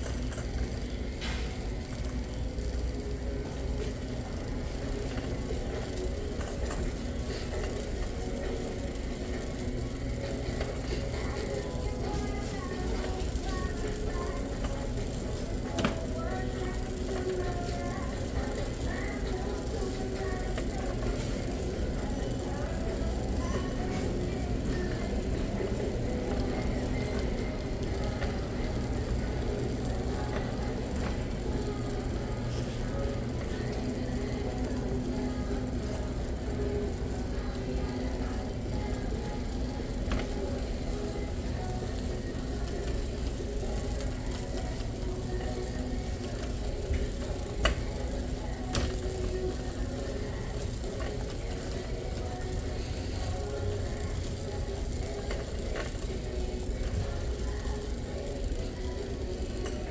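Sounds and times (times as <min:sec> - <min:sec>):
faint clicks and rattles: 0:00.0 - 0:59.9
store background rumble: 0:00.0 - 0:59.9.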